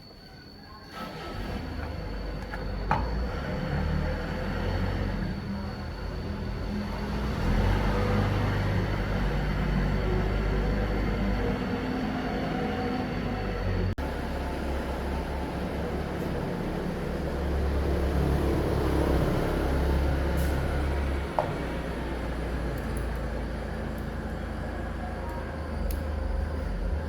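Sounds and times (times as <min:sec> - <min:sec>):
low mechanical rumble: 0:01.1 - 0:27.0.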